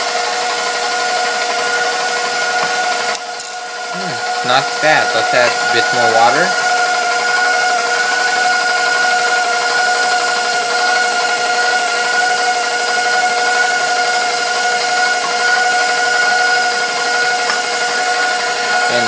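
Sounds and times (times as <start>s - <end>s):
stand mixer motor whining: 0.0s - 19.0s.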